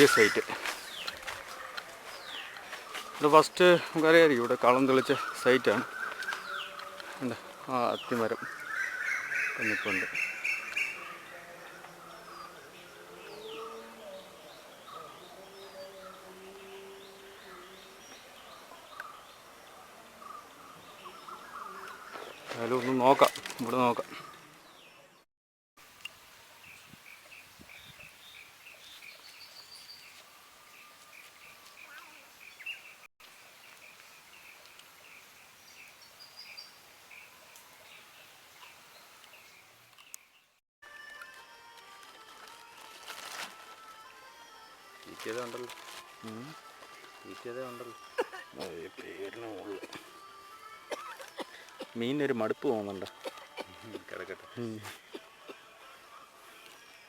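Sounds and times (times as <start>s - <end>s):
birds chirping: 0.0s - 25.2s, 26.6s - 40.6s, 44.1s - 55.2s.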